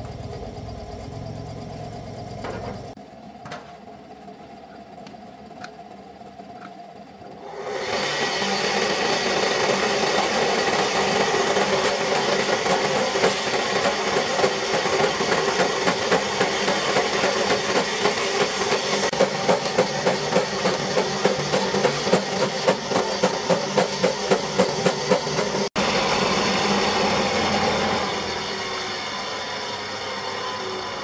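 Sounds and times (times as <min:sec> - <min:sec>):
electric chopper machine running: 0:00.0 - 0:03.0, 0:05.4 - 0:31.0.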